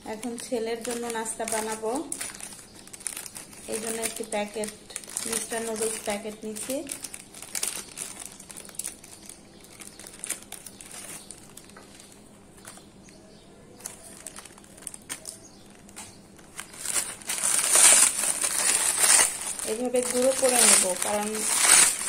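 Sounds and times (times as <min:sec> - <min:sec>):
plastic packet crinkling: 0:00.0 - 0:22.0
dry noodles crunching in packet: 0:00.1 - 0:13.1, 0:13.8 - 0:22.0.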